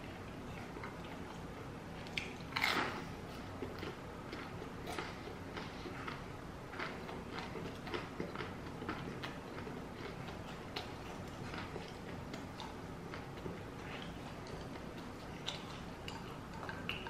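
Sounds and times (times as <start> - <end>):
crunchy chewing: 0.2 - 17.0.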